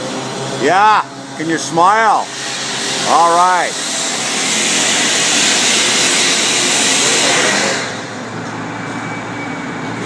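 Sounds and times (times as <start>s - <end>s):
loud rushing hiss: 0.0s - 8.4s.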